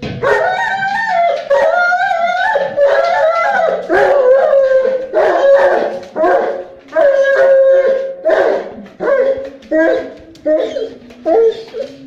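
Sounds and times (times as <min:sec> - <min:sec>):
dog howling: 0:00.2 - 0:12.0.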